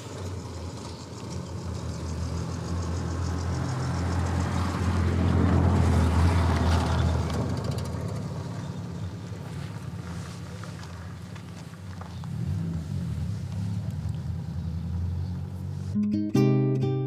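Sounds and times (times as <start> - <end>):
vehicle engine driving past: 0.0 - 16.0.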